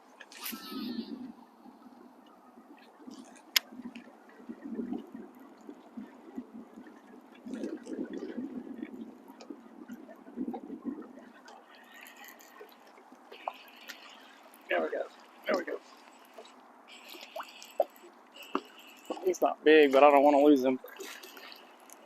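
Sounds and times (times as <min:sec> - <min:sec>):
water gurgling and sloshing: 0:00.0 - 0:22.0.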